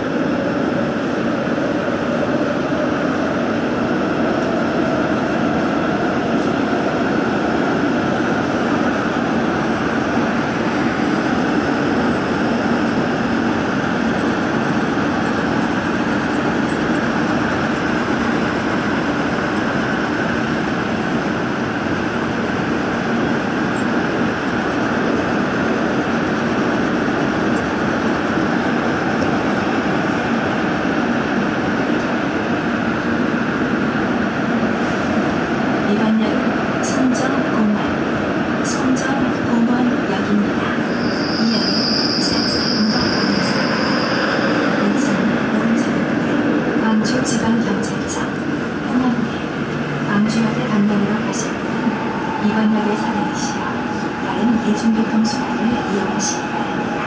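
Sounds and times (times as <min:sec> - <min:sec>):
subway train rumbling in tunnel: 0:00.0 - 0:57.0.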